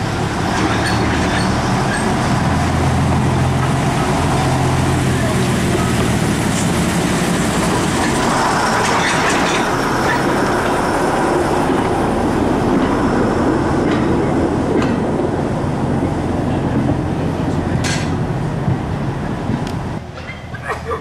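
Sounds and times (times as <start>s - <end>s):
diesel locomotive engine: 0.0s - 21.0s
wagon wheels rumbling on track: 0.0s - 21.0s
wheels clicking over rail joints: 0.1s - 21.0s.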